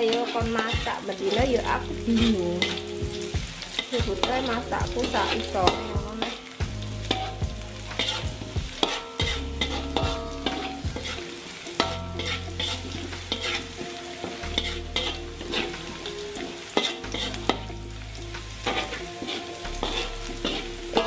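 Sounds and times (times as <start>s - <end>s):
metal spatula scraping wok: 0.0s - 21.0s
oil sizzling: 0.0s - 21.0s.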